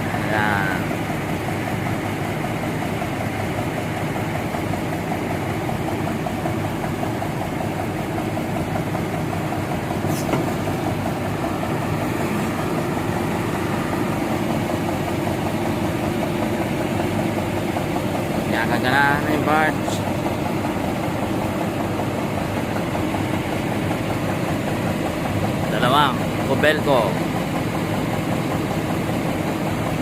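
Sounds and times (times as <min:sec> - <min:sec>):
heavy engine running: 0:00.0 - 0:30.0.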